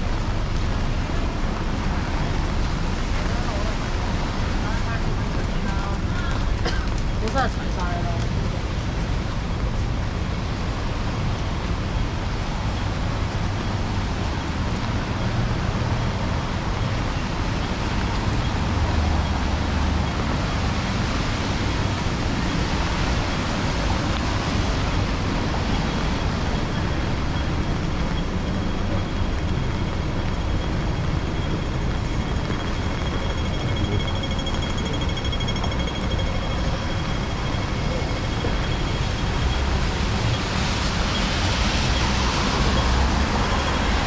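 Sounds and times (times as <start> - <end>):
passing road traffic: 0.0 - 44.0
rain: 0.0 - 44.0
wind: 0.0 - 44.0.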